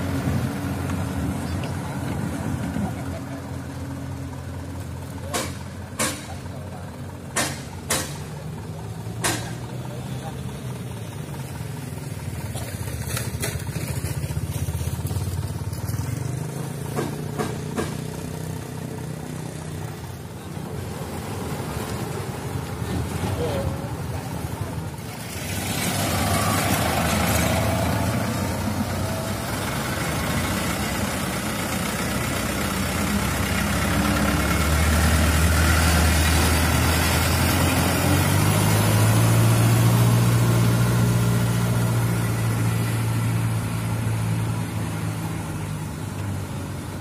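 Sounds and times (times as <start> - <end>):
dump truck engines passing: 0.0 - 47.0.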